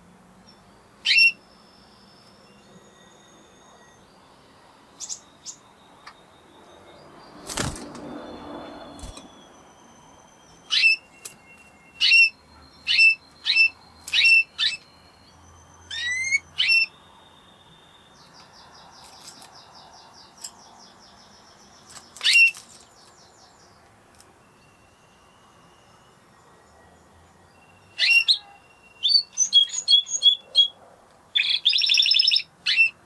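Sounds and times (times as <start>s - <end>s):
canary singing: 0.2s - 33.0s.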